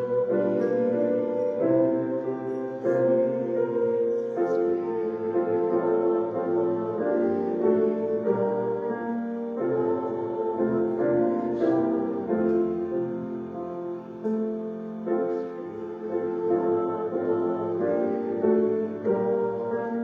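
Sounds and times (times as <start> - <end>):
piano playing a slow hymn: 0.0 - 20.0.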